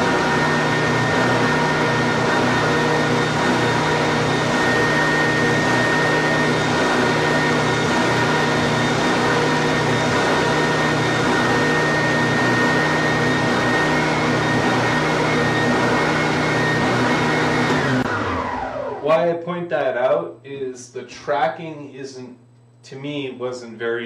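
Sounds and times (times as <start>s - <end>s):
belt sander running: 0.0s - 19.4s.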